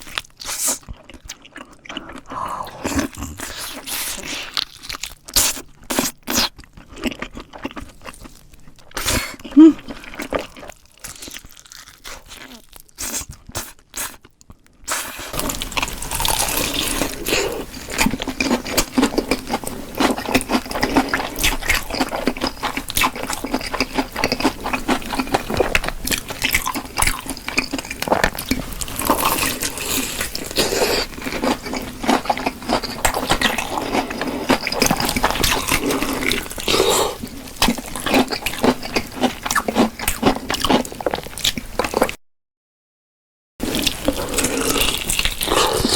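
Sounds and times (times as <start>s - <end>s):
wet chewing and smacking: 0.0s - 42.2s, 43.7s - 45.9s.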